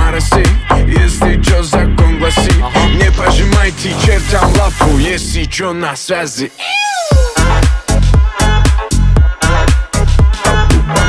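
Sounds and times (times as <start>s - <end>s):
hip-hop beat with deep bass kicks: 0.0s - 5.8s, 7.1s - 11.0s.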